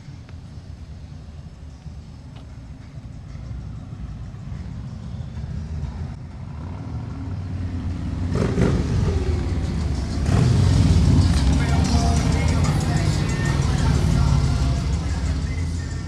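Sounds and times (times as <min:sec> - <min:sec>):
traffic engines rumbling: 0:00.0 - 0:16.0.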